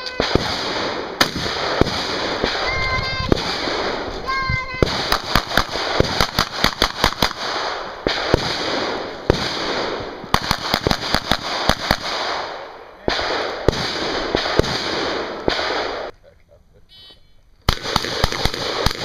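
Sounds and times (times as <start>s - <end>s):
gunshots: 0.0s - 16.1s, 17.7s - 19.0s.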